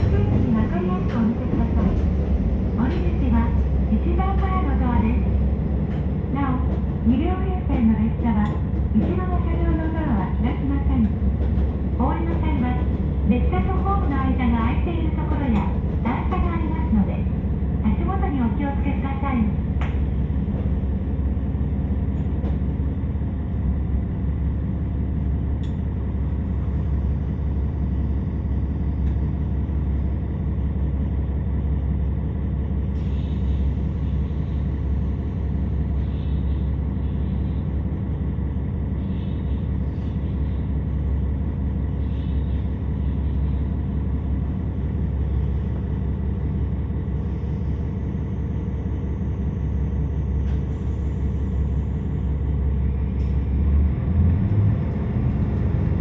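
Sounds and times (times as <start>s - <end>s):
diesel railcar rumble: 0.0s - 56.0s.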